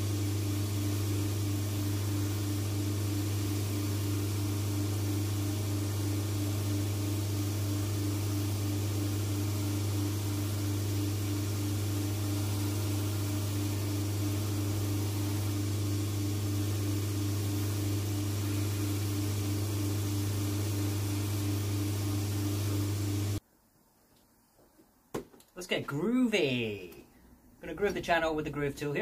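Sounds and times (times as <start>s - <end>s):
shoe finishing machine motor hum: 0.0s - 23.4s.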